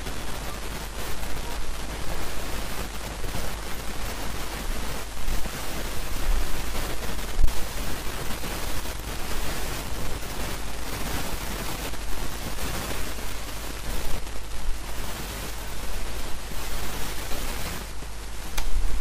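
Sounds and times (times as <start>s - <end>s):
fluttering crackle: 0.0s - 19.0s
steady hiss: 0.0s - 19.0s.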